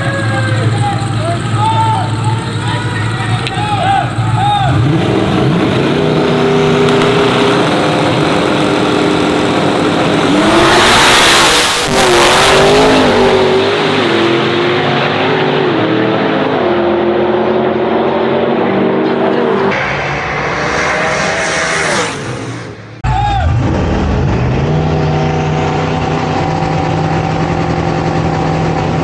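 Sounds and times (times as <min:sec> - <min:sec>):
drag racing cars at full throttle: 0:00.0 - 0:29.0.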